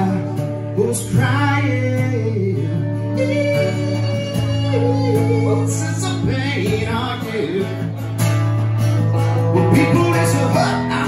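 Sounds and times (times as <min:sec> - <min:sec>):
electric guitar playing: 0:00.0 - 0:11.0
strummed acoustic guitar: 0:00.0 - 0:11.0.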